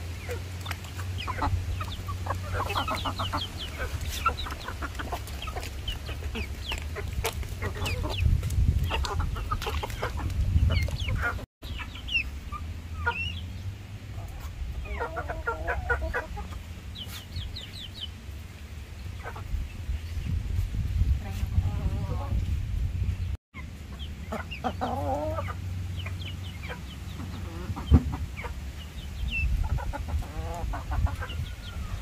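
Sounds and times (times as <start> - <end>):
chickens clucking: 0.0 - 22.6, 23.2 - 32.0.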